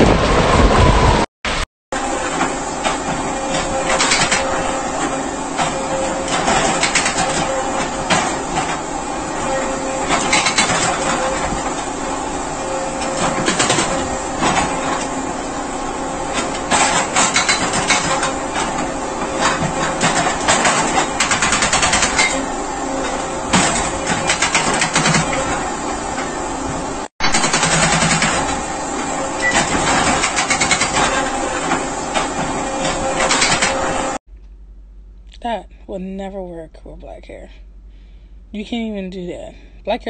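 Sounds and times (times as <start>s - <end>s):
machine noise: 0.0s - 40.0s.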